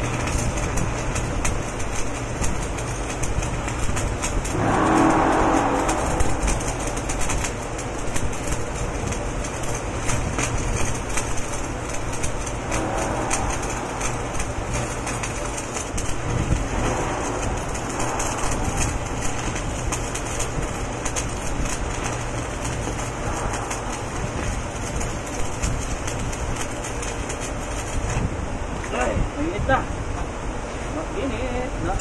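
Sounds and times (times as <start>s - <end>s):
arc welding crackling hiss: 0.0s - 29.8s
low rumble: 0.0s - 30.1s.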